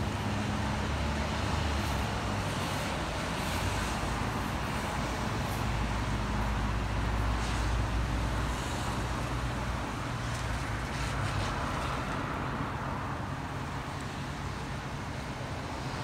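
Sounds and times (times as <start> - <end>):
rumble of passing vehicles: 0.0 - 16.0
tyres hissing on wet pavement: 0.0 - 16.0.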